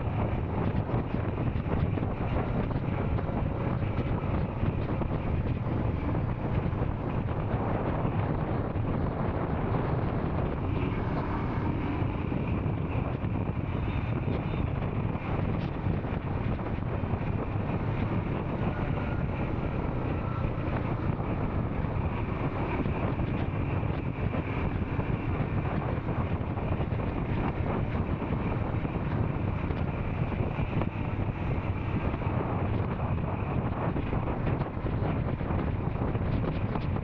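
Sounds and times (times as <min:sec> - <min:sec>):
wind noise on microphone: 0:00.0 - 0:37.0.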